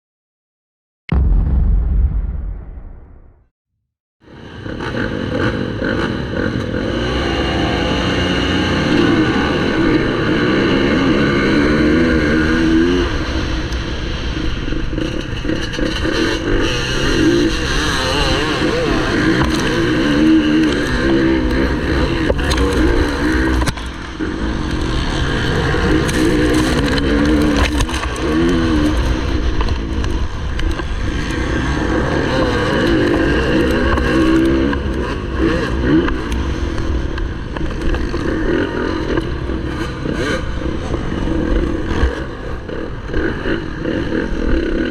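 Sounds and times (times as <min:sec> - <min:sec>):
motocross bike engines revving: 0:04.4 - 0:44.9.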